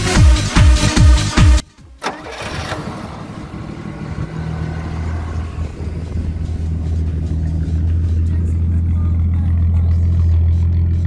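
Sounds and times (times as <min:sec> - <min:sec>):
electronic music: 0:00.0 - 0:01.9, 0:04.0 - 0:11.0
car engine idling: 0:01.7 - 0:11.0.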